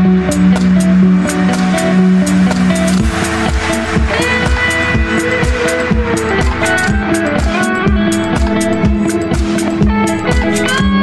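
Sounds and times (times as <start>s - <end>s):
guitar music: 0.0s - 11.0s
steady drum beat: 0.3s - 11.0s.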